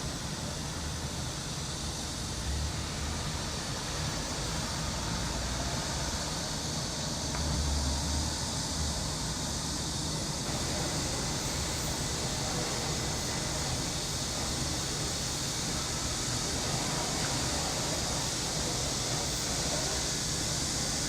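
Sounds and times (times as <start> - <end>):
cicadas chorus: 0.0 - 21.0.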